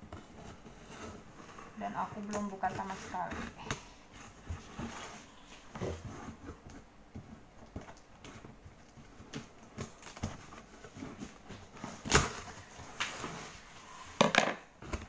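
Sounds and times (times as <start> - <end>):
cardboard rustling: 0.0 - 15.0.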